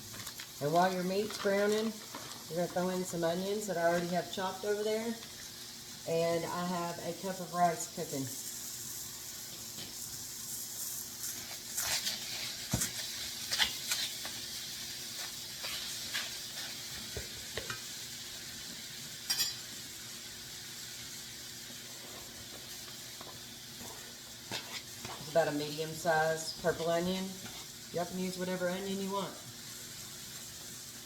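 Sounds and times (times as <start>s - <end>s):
meat sizzling in a skillet: 0.0s - 31.0s.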